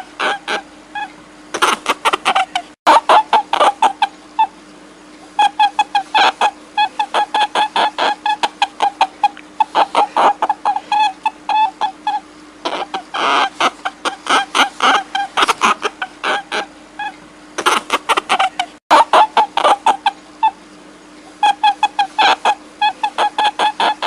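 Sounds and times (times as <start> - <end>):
short pitched animal calls: 0.0 - 4.6, 5.2 - 24.0
steady low hum: 0.0 - 24.0.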